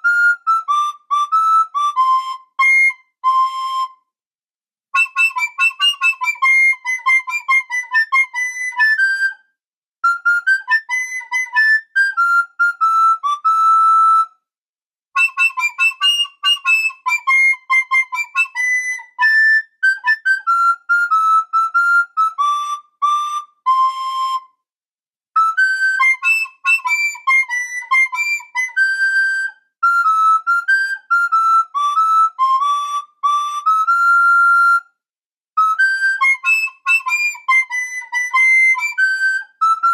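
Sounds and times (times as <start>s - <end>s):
person whistling a tune: 0.0s - 4.2s, 5.0s - 14.4s, 15.2s - 24.7s, 25.4s - 35.0s, 35.6s - 39.9s.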